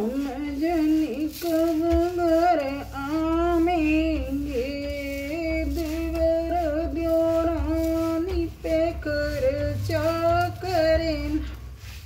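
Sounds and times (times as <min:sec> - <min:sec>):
woman singing: 0:00.0 - 0:11.7.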